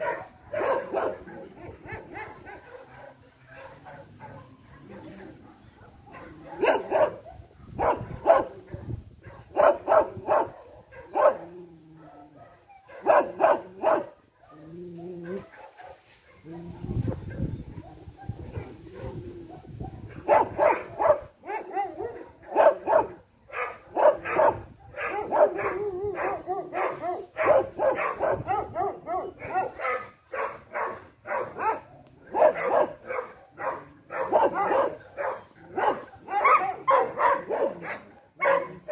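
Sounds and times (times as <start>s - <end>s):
dog barking: 0.0s - 38.9s.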